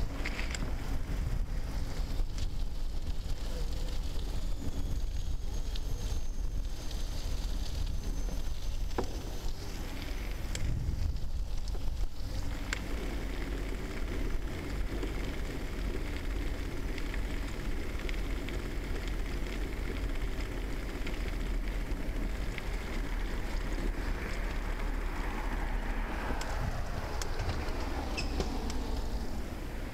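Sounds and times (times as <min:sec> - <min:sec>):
bicycle clicks and rattles: 0:00.0 - 0:29.9
tyre rolling on pavement: 0:00.0 - 0:29.9
wind rumble on microphone: 0:00.0 - 0:29.9.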